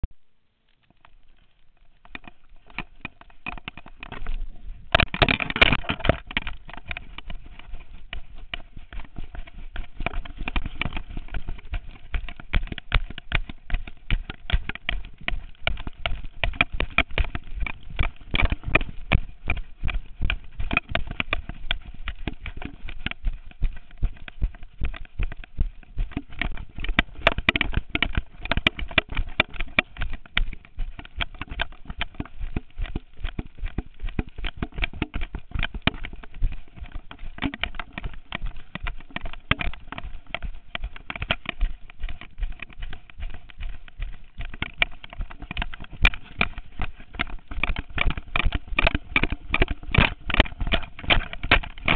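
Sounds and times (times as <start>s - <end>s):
camera knocking and rattling: 0.7s - 51.9s.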